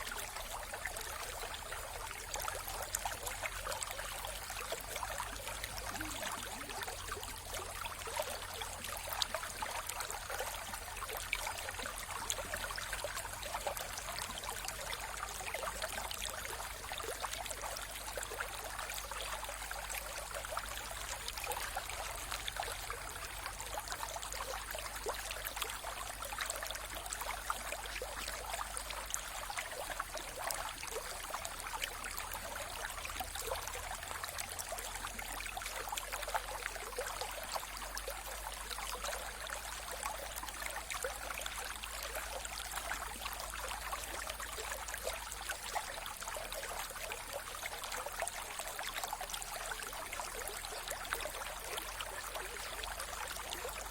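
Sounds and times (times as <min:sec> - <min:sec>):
water splashing and bubbling: 0:00.0 - 0:53.9.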